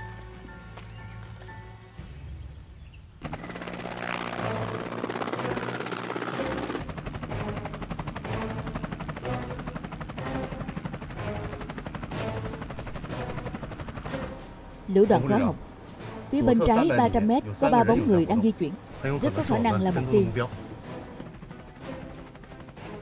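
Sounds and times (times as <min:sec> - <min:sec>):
helicopter rotors chopping: 0:03.2 - 0:23.0.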